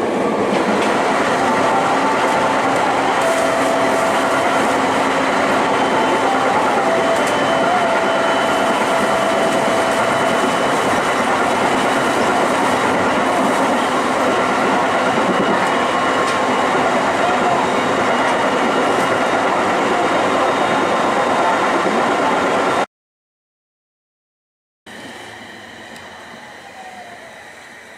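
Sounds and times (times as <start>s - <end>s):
train wheels rumbling on rails: 0.0s - 22.8s.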